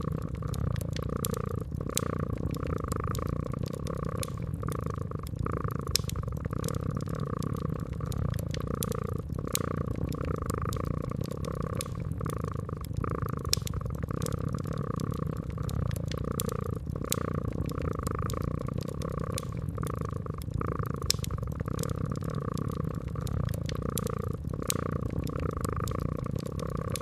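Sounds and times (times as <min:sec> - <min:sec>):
cat purring: 0:00.0 - 0:27.0
wood fire crackling: 0:00.0 - 0:27.0.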